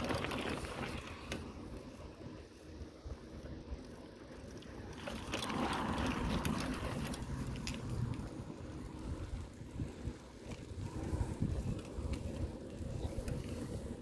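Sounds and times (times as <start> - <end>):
low rumble of road movement: 0.0 - 14.0
wind buffeting microphone: 0.0 - 14.0.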